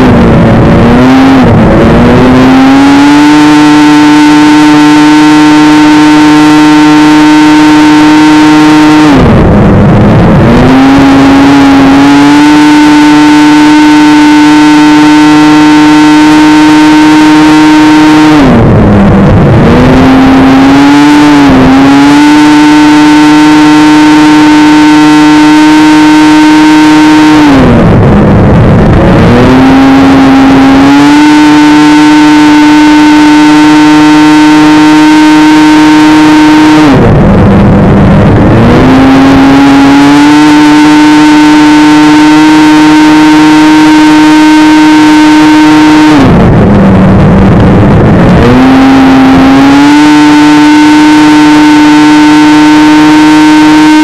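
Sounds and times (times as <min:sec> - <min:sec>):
snowmobile engine at full throttle: 0:00.0 - 0:54.0.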